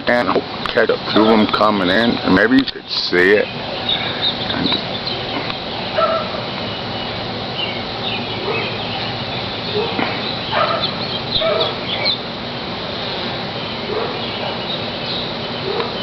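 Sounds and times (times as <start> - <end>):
flock of birds calling: 0.1 - 16.0.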